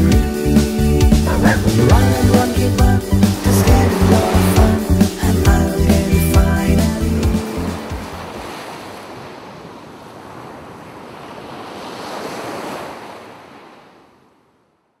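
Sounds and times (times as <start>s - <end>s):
waves washing on shore: 1.5s - 14.4s.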